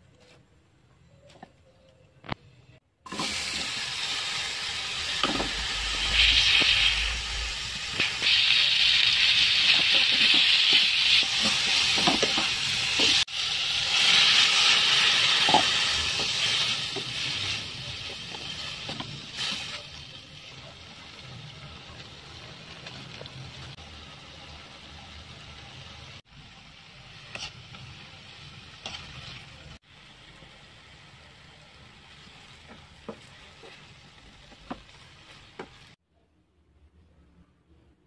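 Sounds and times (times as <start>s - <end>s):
vegetables sizzling in hot oil: 3.1s - 36.0s.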